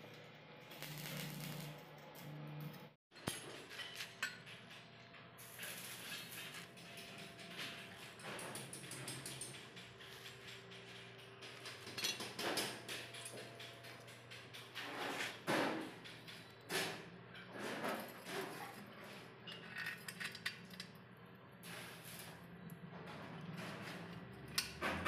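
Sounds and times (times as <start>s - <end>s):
metal clinks and scrapes: 0.1s - 21.0s.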